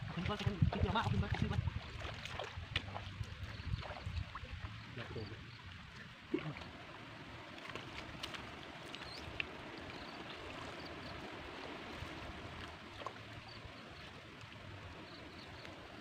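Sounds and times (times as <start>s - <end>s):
small splashes and drips: 0.0s - 16.0s.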